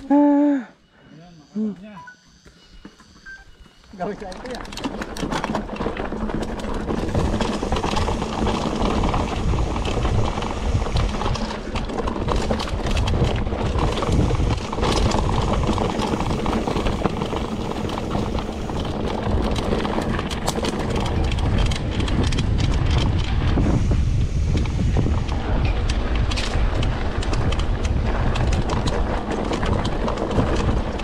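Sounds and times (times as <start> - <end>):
bike clattering over rough ground: 2.8 - 31.0
wind rush on microphone: 4.8 - 31.0.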